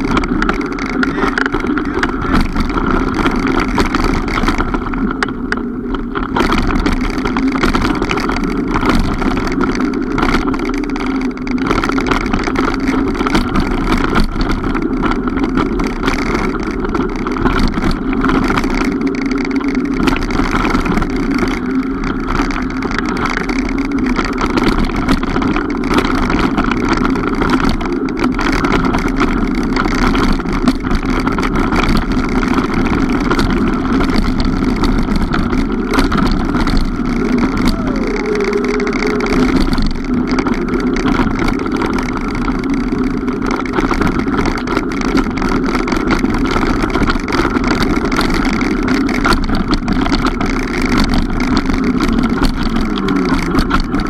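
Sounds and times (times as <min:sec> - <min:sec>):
bike tyre noise: 0:00.0 - 0:54.0
small clicks and knocks from bike: 0:00.0 - 0:54.0
wind noise on microphone: 0:00.0 - 0:54.0.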